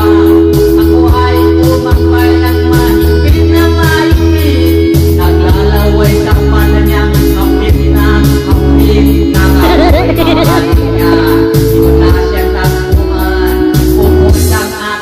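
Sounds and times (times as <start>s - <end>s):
man singing into microphone: 0.0s - 15.0s
music backing track: 0.0s - 15.0s.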